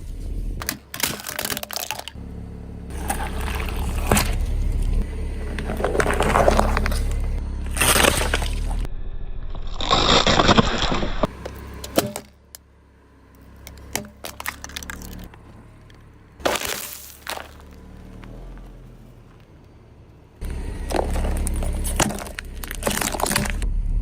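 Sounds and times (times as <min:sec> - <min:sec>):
car tyre crushing objects: 0:00.0 - 0:08.9, 0:09.5 - 0:23.7.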